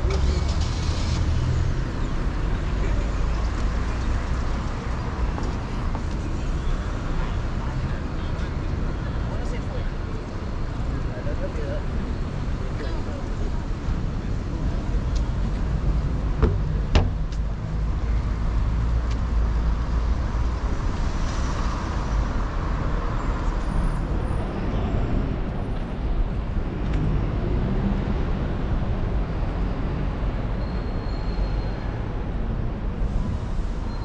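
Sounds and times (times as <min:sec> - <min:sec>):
rumble of cars: 0:00.0 - 0:34.0.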